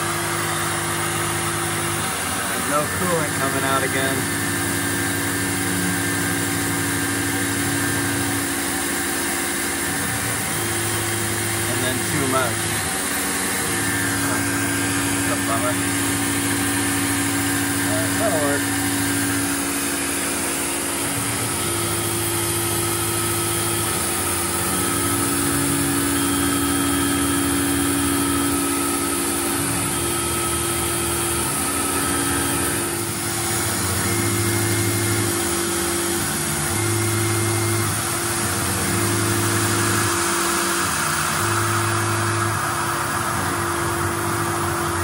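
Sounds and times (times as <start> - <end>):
milling machine cutting metal: 0.0 - 45.0.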